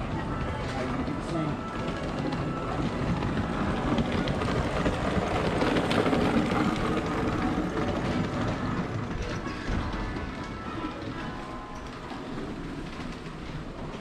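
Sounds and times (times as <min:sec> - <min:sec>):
train cars clattering and clanking: 0:00.0 - 0:14.0
train rumbling along track: 0:00.0 - 0:14.0.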